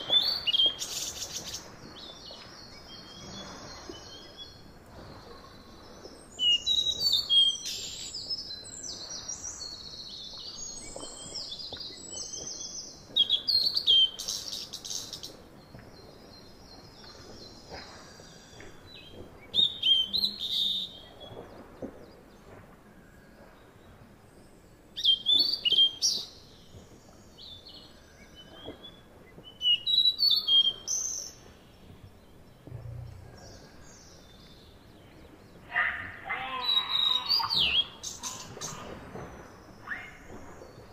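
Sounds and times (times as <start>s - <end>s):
birds chirping: 0.0s - 40.9s
faint background hiss: 0.0s - 40.9s.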